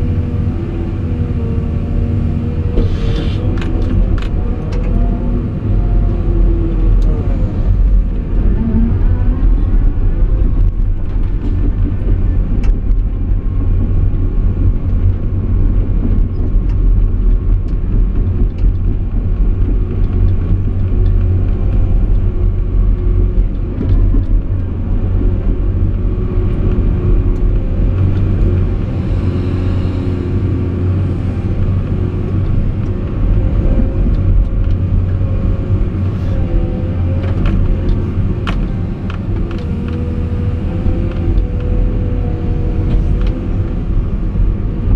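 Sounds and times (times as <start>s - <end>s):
excavator diesel engine rumbling: 0.0s - 44.9s.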